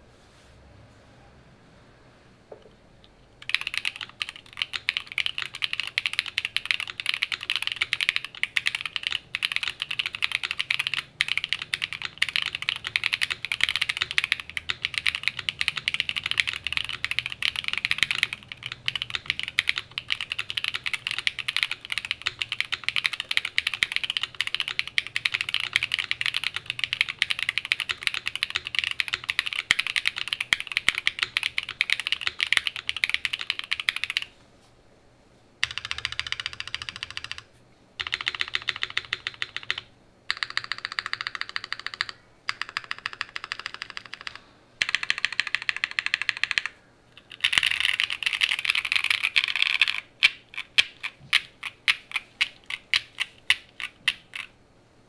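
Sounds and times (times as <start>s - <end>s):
mechanical keyboard typing: 3.4s - 34.3s, 35.6s - 54.6s.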